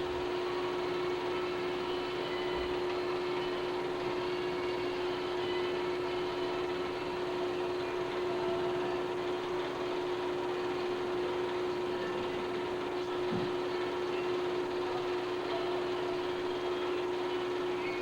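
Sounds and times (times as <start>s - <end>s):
machine hum and hiss: 0.0s - 18.0s.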